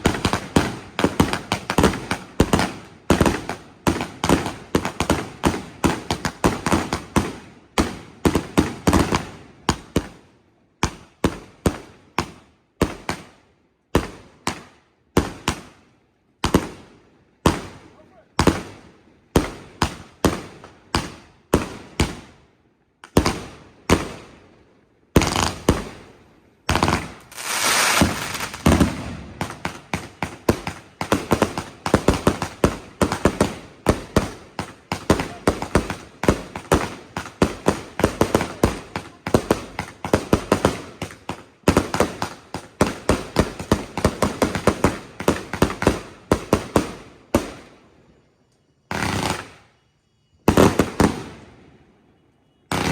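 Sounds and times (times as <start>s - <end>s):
fireworks bangs and pops: 0.0s - 24.5s, 25.1s - 47.8s, 48.9s - 49.7s, 50.5s - 51.6s, 52.7s - 52.9s.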